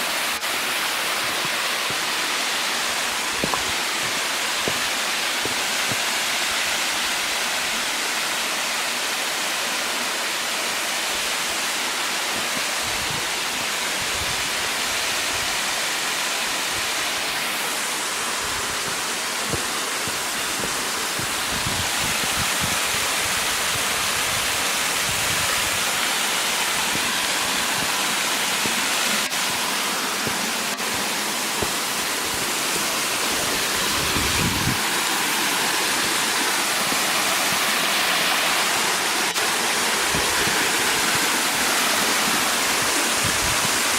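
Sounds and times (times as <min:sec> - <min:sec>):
water rushing over rock: 0:00.0 - 0:43.9.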